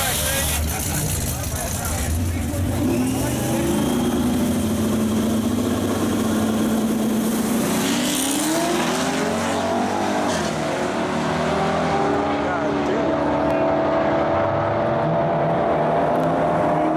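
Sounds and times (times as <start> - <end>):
racing engines accelerating: 0.0 - 16.9.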